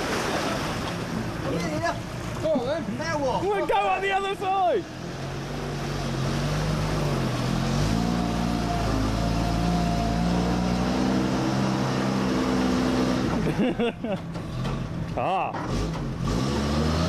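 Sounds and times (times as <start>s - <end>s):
water rushing and churning: 0.0s - 13.7s
truck engine labouring: 0.0s - 17.0s.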